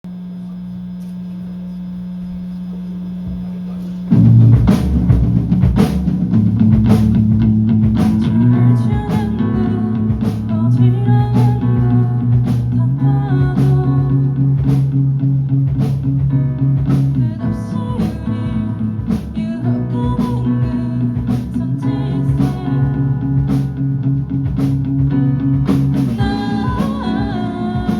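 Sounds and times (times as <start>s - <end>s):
live rock band playing: 4.1s - 27.9s.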